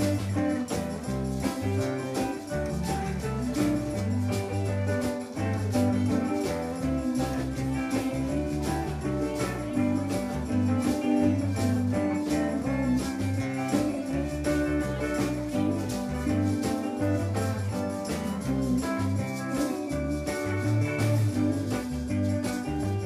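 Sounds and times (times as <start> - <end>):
bass line: 0.0 - 23.0
electric guitars: 0.0 - 23.0
steady drum beat: 0.0 - 23.0.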